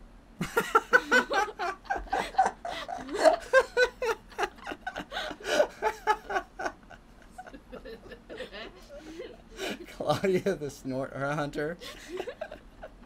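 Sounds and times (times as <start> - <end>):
two people laughing: 0.4 - 10.5, 11.8 - 13.0.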